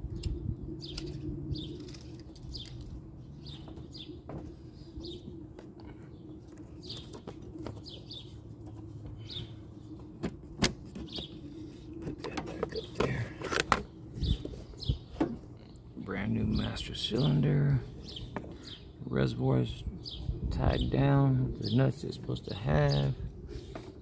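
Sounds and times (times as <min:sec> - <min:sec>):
steady low hum: 0:00.0 - 0:24.0
birds chirping: 0:00.1 - 0:24.0.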